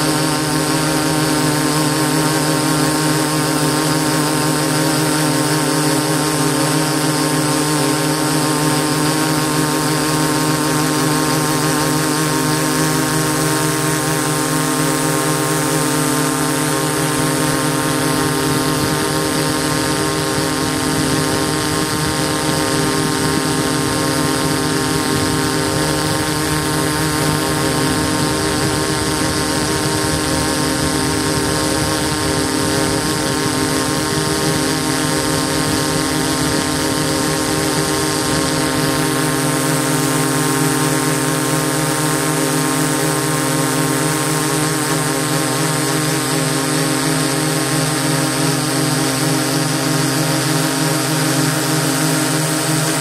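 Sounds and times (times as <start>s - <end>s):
drone motors and propellers whining: 0.0s - 53.0s.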